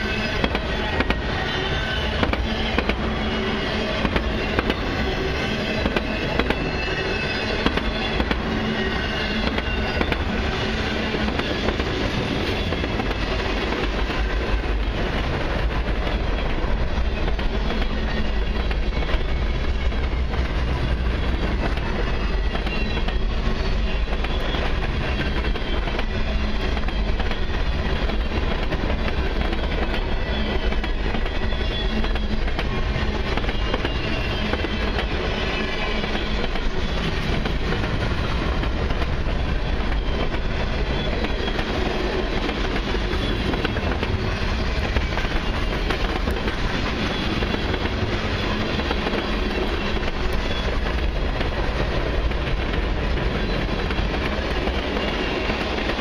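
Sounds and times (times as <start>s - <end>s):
train rolling past rumbling: 0.0s - 56.0s.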